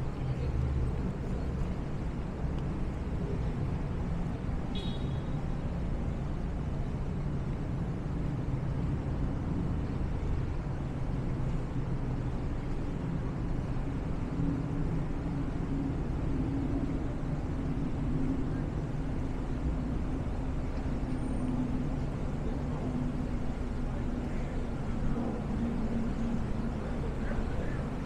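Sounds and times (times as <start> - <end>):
city street traffic hum: 0.0 - 28.0.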